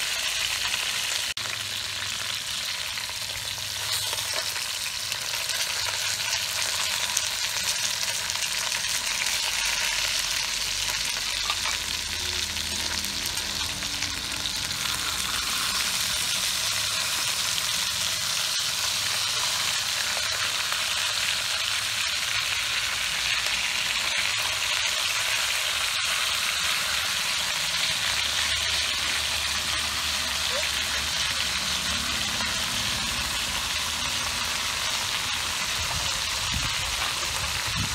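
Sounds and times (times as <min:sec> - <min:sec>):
fish sizzling in a pot: 0:00.0 - 0:37.9.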